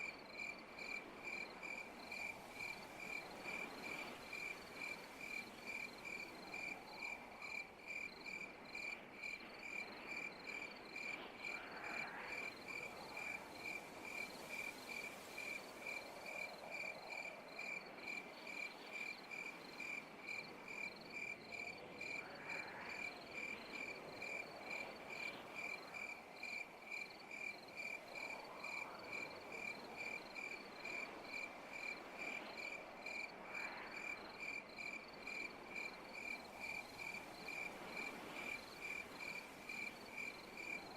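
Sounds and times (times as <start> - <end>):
cricket chirping: 0.0 - 40.9
night insects: 0.0 - 40.9.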